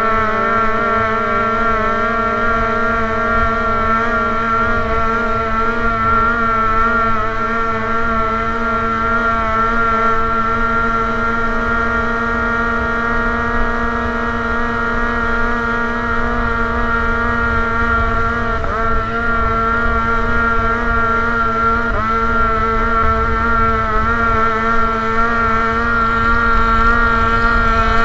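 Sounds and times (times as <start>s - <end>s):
motorboat engine running: 0.0s - 28.0s.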